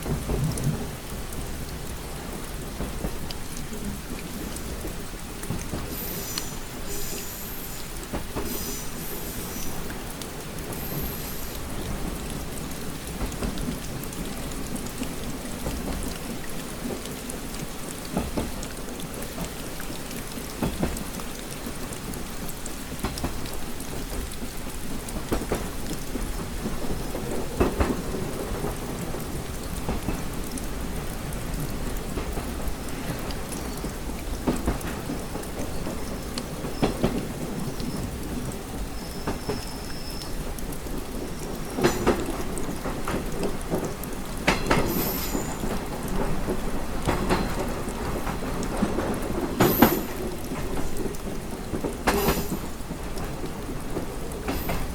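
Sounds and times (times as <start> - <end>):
rain tapping on window: 0.0 - 54.9
train low rumble: 0.0 - 54.9.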